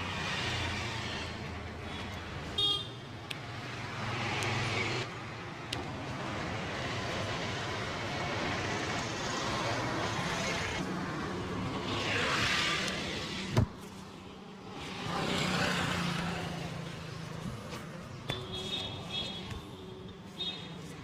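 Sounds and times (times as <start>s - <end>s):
traffic engines and road noise: 0.0s - 21.0s
vehicles passing: 0.0s - 21.0s.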